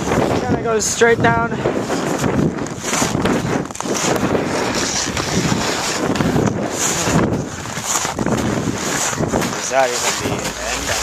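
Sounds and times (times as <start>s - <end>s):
skis scraping over snow: 0.0s - 11.0s
wind buffeting microphone: 0.0s - 11.0s.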